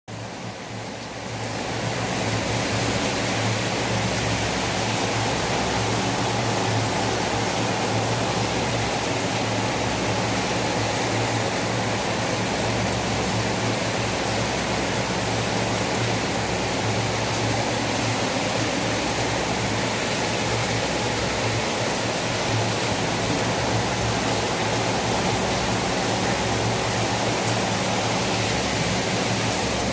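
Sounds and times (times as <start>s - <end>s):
heavy rain hissing: 0.1s - 29.9s.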